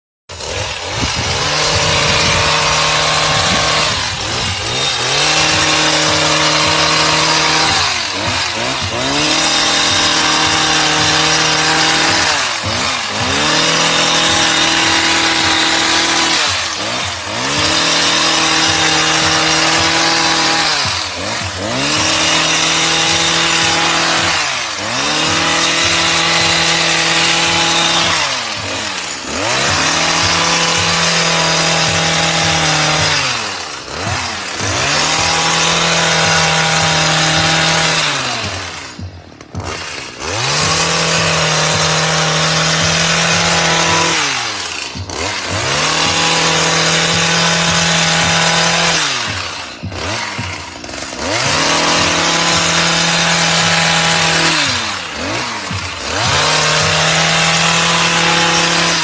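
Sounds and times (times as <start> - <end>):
hedge trimmer engine running: 0.3 - 59.0.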